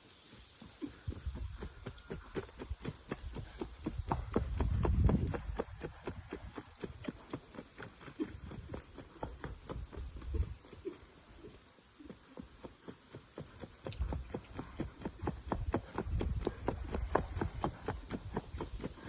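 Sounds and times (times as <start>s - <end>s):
horse hoofbeats: 0.2s - 19.0s.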